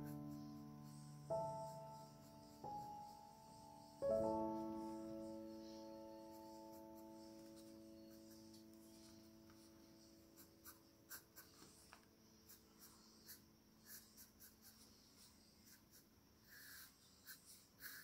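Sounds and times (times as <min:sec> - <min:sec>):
pencil scratching on paper: 0:00.0 - 0:18.0.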